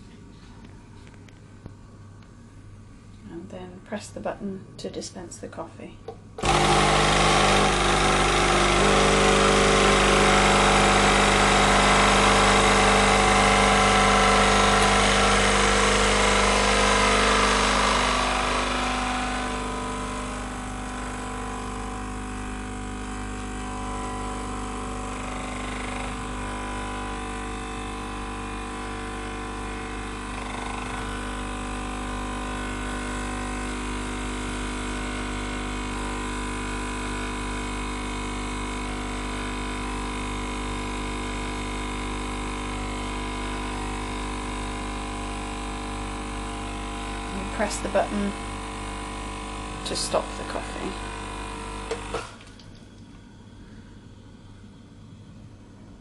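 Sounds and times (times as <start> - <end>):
espresso machine pump humming: 6.1 - 56.0.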